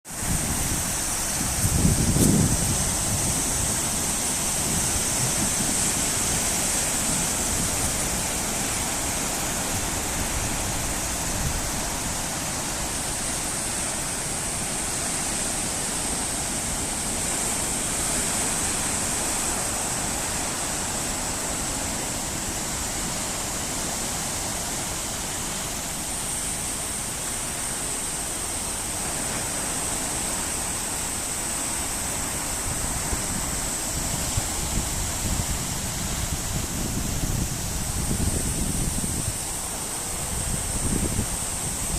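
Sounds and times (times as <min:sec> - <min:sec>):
high hiss of surf: 0:00.0 - 0:41.9
ocean waves breaking: 0:00.1 - 0:41.9.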